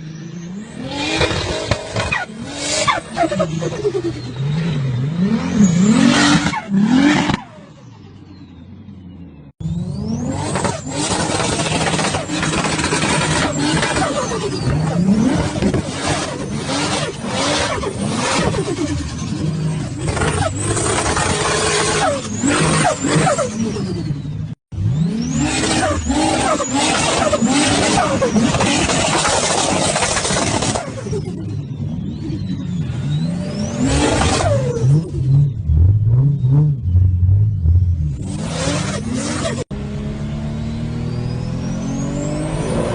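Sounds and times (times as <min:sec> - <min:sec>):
car engine revving: 0:00.0 - 0:08.0, 0:09.0 - 0:42.9.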